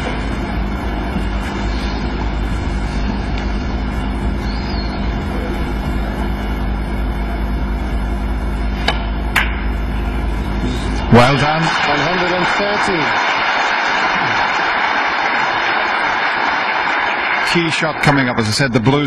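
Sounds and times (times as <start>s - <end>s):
low hum: 0.0s - 18.8s.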